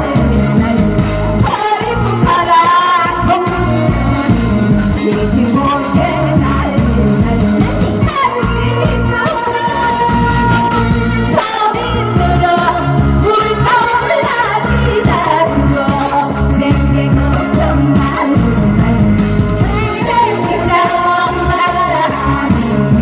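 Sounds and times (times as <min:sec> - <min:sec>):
live band playing pop song: 0:00.0 - 0:23.0
person singing: 0:00.0 - 0:23.0
pulsing bass beat: 0:00.0 - 0:23.0.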